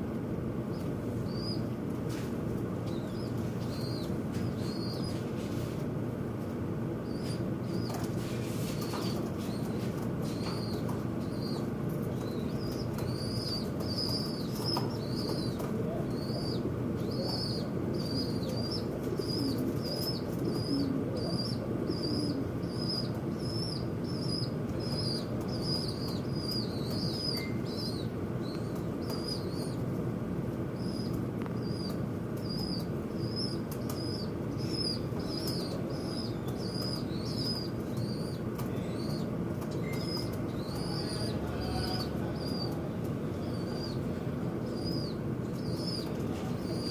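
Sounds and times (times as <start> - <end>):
low background noise: 0.0 - 46.9
small bird chirping: 0.7 - 1.7, 2.9 - 5.2, 8.8 - 29.8, 30.8 - 42.8, 43.4 - 44.0, 44.6 - 46.9.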